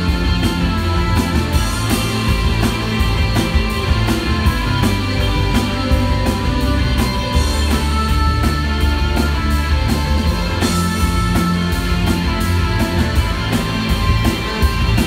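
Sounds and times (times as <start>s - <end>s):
bass guitar: 0.0s - 15.0s
electric guitars: 0.0s - 15.0s
steady drum beat: 0.0s - 15.0s.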